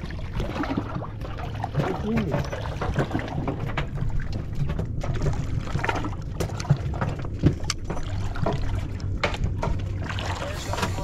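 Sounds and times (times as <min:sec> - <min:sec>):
low boat engine hum: 0:00.0 - 0:11.0
water sloshing and splashing: 0:00.0 - 0:11.0.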